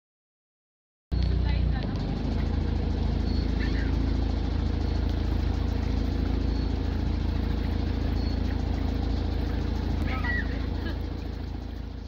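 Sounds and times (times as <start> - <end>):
engine running steadily: 1.1 - 12.0.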